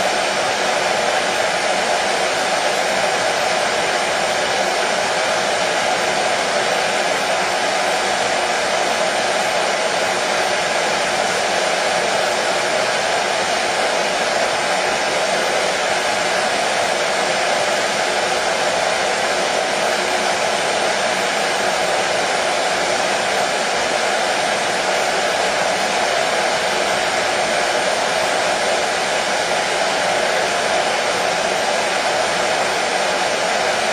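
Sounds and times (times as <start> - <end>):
hair dryer running: 0.0 - 33.9.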